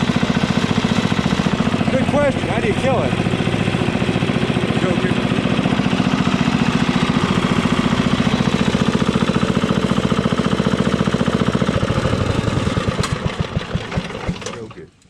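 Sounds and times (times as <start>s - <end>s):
gasoline engine running: 0.0s - 15.0s.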